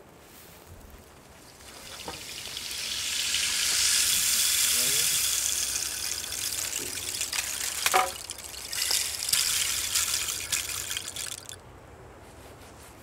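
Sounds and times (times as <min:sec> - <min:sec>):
rushing crackly hiss: 0:00.0 - 0:11.6.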